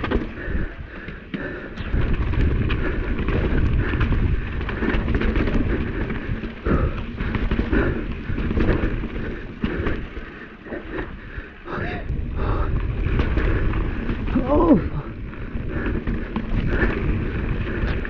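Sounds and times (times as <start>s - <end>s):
bike rattling and knocking: 0.0s - 18.0s
bike tyres on wet rocky ground: 0.0s - 18.0s
wind rumbling on microphone: 0.0s - 18.0s.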